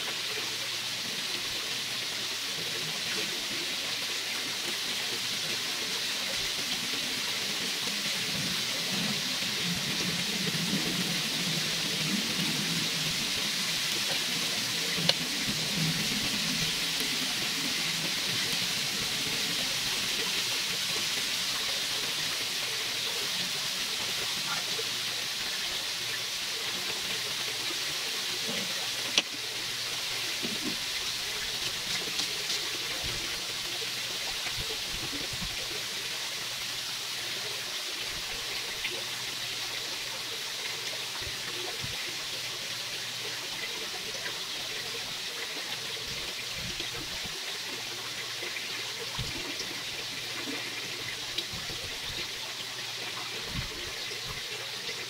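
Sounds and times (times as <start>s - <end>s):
chicken sizzling on a grill: 0.0s - 55.0s.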